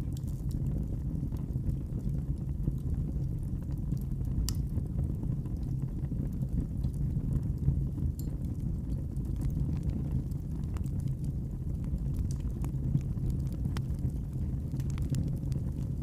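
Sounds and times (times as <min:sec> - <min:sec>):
fire burning in fireplace: 0:00.0 - 0:16.0.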